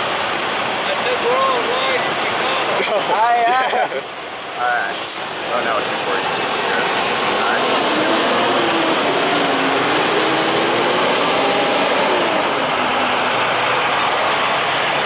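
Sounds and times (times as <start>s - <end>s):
trucks driving past: 0.0s - 15.0s.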